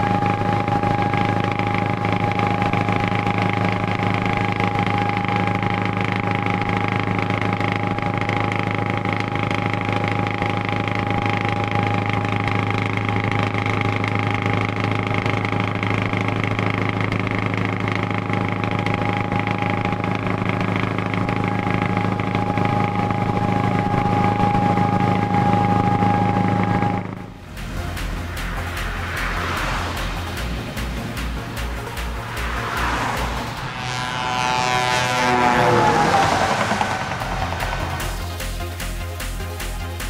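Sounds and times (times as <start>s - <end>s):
diesel truck engine drone: 0.0s - 40.0s
thin steady whine: 0.0s - 40.0s.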